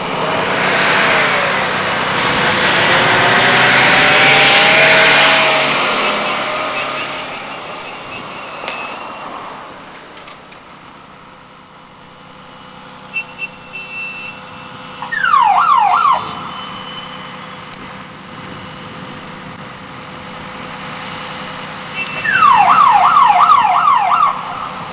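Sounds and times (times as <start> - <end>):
background traffic: 0.0 - 24.9
emergency vehicle siren yelping: 2.7 - 24.9.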